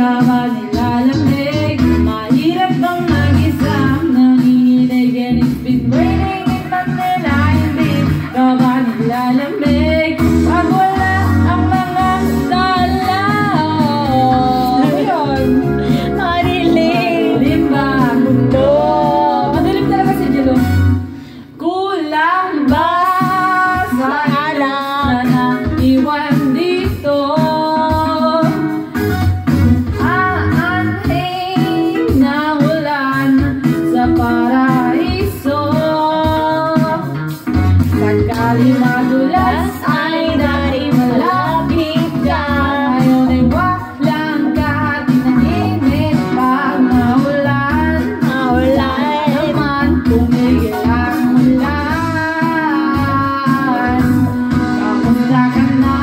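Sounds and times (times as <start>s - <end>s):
woman singing into microphone: 0.0s - 29.1s, 29.8s - 56.0s
backing track music: 0.0s - 56.0s.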